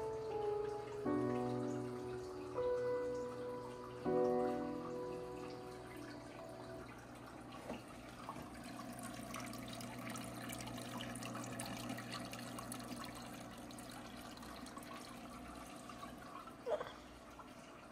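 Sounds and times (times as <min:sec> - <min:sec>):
low steady hum: 0:00.0 - 0:17.9
water trickling and dripping: 0:00.0 - 0:17.9.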